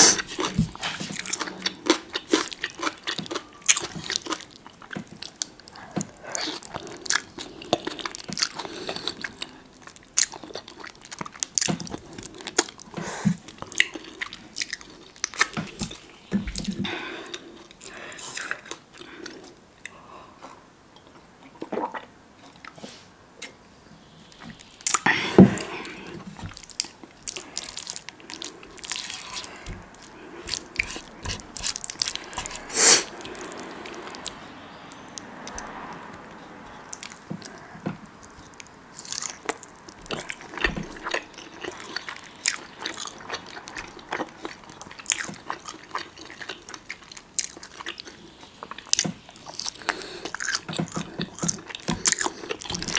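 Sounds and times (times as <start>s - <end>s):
wet chewing mouth sounds: 0.0s - 20.6s, 24.5s - 52.9s.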